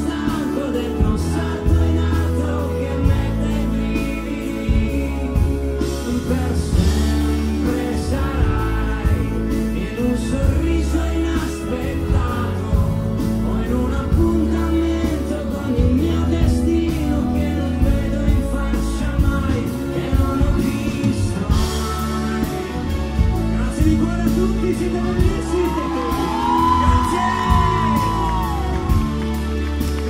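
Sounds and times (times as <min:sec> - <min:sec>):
man singing: 0:00.0 - 0:29.2
pop-rock band playing: 0:00.0 - 0:30.0.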